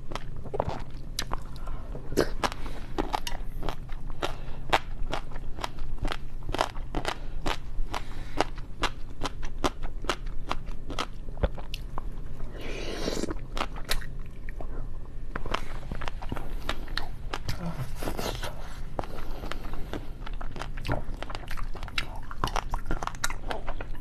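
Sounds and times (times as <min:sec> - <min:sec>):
food crunching and chewing: 0:00.0 - 0:12.3, 0:12.9 - 0:24.0.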